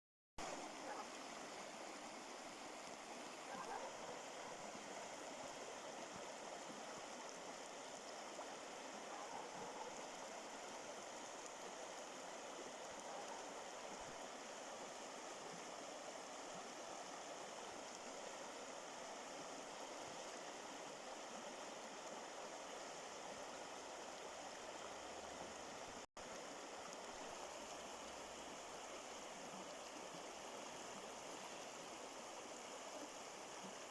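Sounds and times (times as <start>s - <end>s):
stream of running water: 0.4s - 33.9s.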